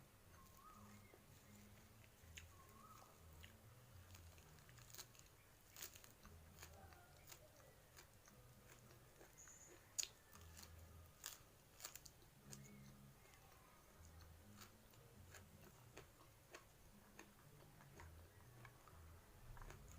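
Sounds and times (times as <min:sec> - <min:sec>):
person chewing and crunching: 0:00.3 - 0:19.9.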